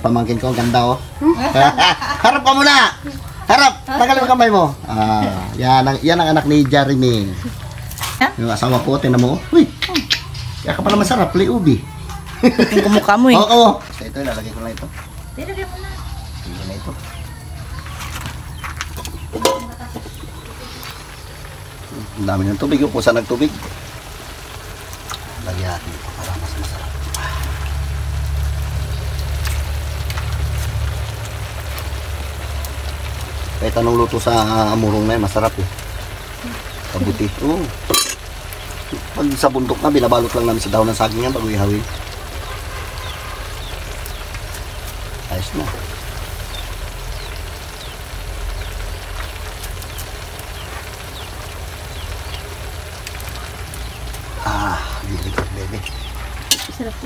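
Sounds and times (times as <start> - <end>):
food simmering hiss: 0.0 - 57.0
light crackles: 0.0 - 57.0.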